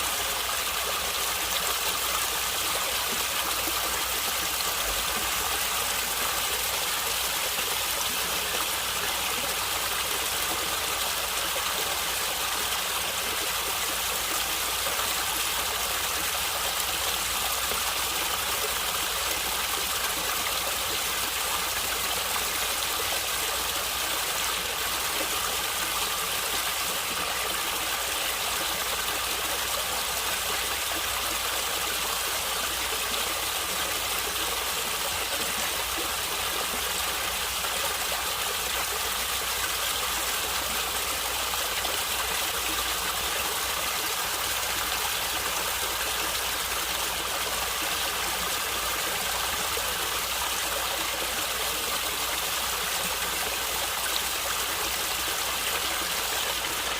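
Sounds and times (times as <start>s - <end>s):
stream water running and gurgling: 0.0s - 56.9s.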